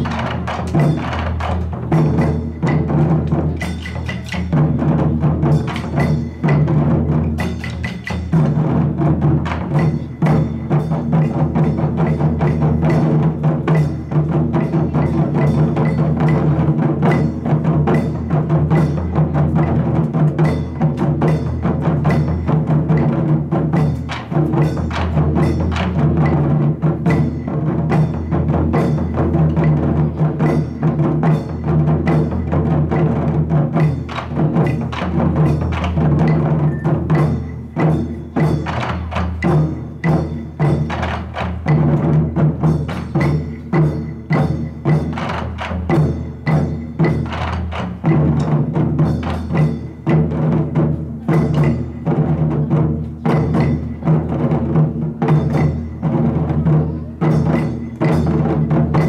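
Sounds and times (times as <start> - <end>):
drum ensemble playing: 0.0 - 59.0.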